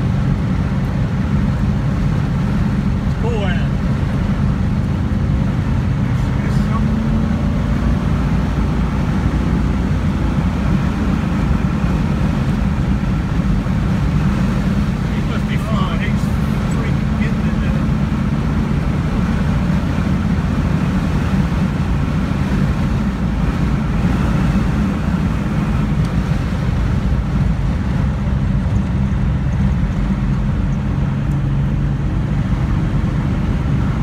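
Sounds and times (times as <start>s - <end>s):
car engine pulling: 0.0s - 34.0s
road and wind noise: 0.0s - 34.0s.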